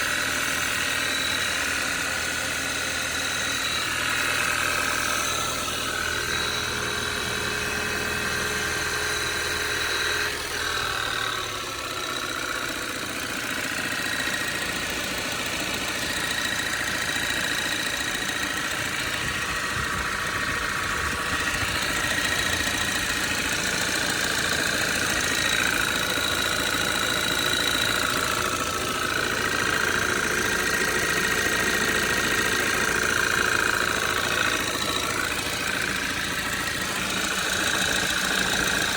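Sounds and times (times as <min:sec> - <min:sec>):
car engine idling: 0:00.0 - 0:38.9
engine knocking: 0:00.0 - 0:38.9.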